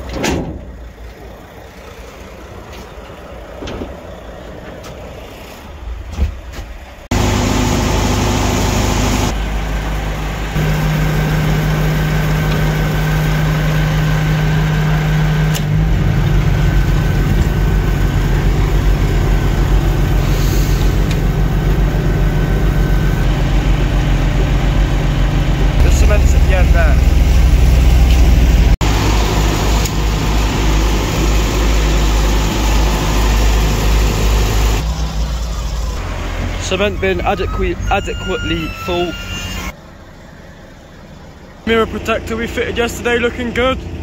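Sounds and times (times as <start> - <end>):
large engine running: 0.0 - 44.0.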